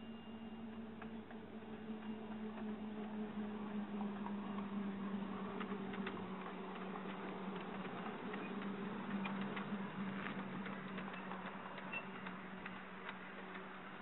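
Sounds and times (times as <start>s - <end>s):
train wheels clicking over rails: 0.0s - 14.0s.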